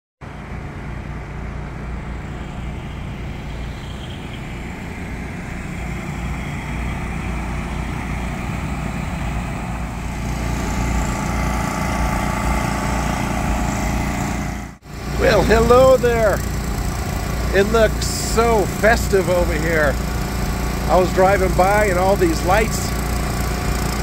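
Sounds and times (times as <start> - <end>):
small gasoline generators running: 0.2 - 24.0.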